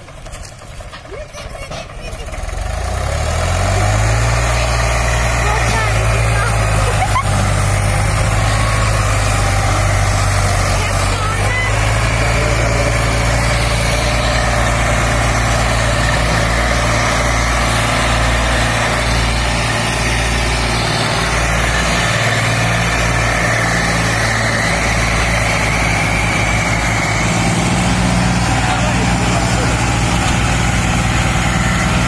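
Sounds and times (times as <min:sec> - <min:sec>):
tractor diesel engine droning: 0:00.0 - 0:32.0.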